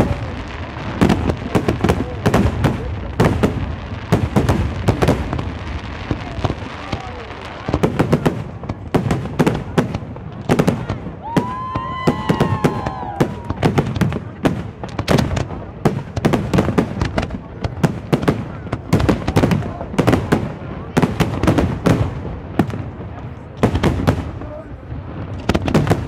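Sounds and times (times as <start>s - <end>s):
firework bangs: 0.0s - 26.0s.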